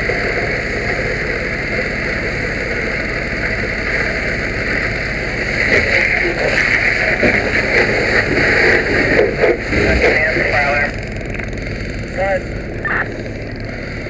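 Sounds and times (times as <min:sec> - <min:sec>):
hose spraying water stream: 0:00.0 - 0:14.0.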